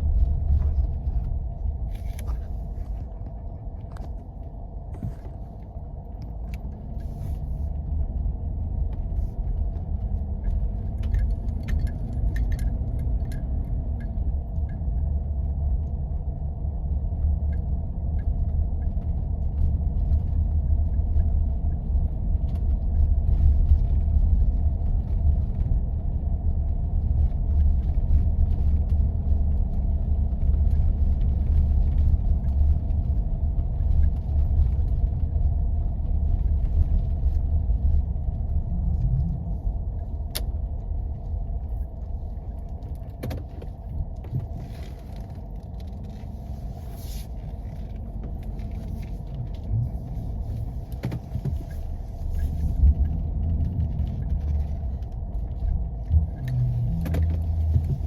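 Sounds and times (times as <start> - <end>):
vehicle driving on snow rumble: 0.0 - 58.0.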